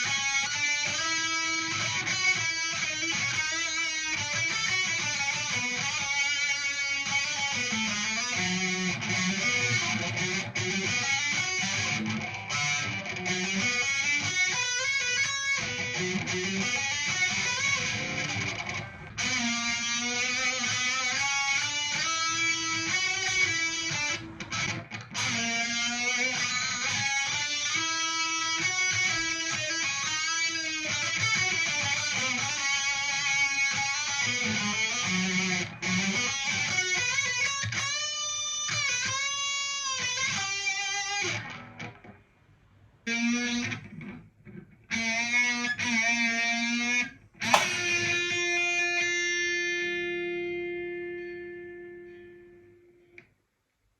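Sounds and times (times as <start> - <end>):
electric guitar solo: 0.0 - 42.2, 43.1 - 53.0.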